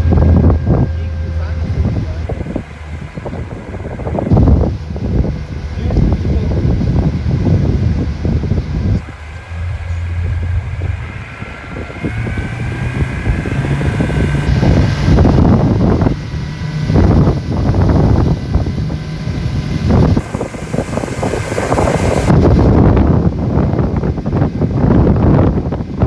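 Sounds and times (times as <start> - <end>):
boat motor running: 0.0 - 26.0
wind buffeting microphone: 0.0 - 26.0.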